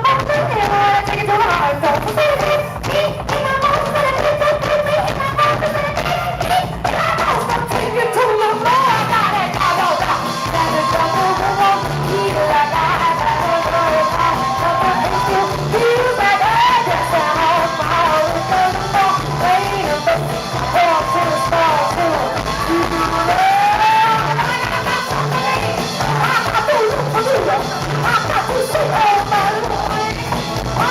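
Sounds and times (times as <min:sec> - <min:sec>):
live band with singing: 0:00.0 - 0:30.9.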